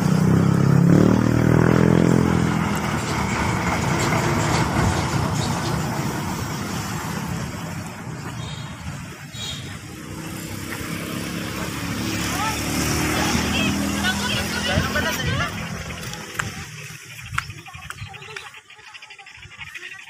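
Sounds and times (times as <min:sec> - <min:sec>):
vehicle engine passing: 0:00.0 - 0:17.6
road noise: 0:00.0 - 0:20.0.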